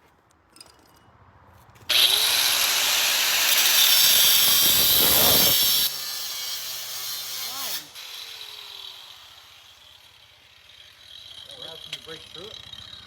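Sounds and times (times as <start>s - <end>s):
angle grinder cutting steel: 1.9s - 13.0s.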